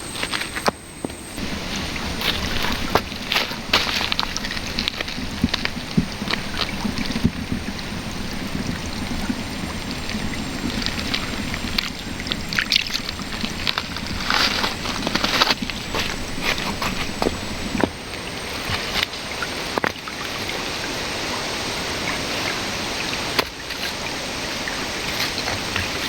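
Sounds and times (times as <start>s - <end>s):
river water flowing: 1.4s - 26.0s.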